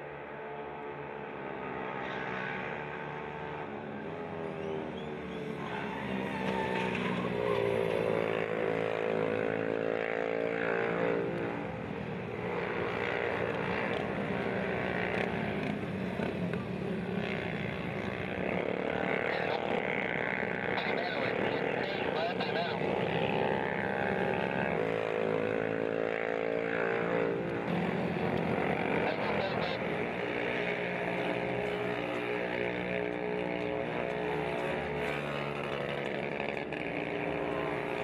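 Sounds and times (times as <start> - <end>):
racing motorcycles passing: 0.0 - 38.0.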